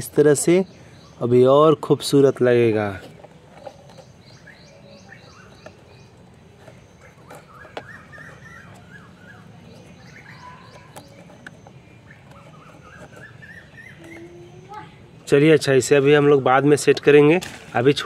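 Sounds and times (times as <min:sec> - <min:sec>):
faint outdoor hiss: 0:00.0 - 0:18.0
small birds chirping: 0:00.0 - 0:18.0.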